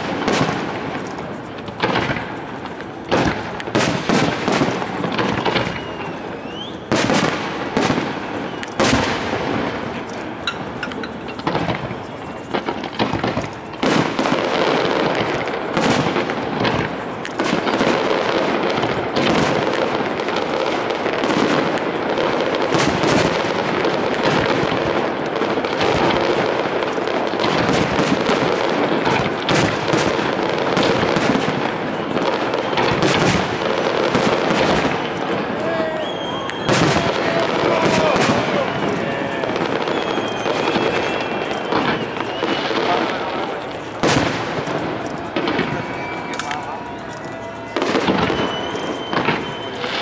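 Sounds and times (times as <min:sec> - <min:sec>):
firework shells bursting: 0:00.0 - 0:18.0, 0:21.5 - 0:50.0.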